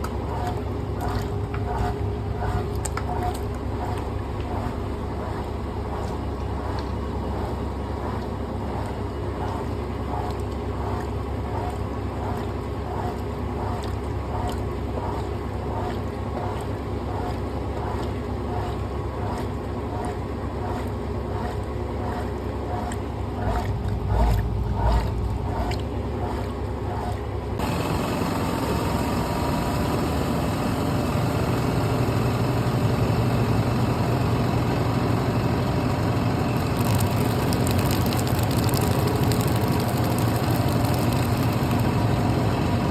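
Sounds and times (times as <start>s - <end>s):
washing machine humming: 0.0s - 42.9s.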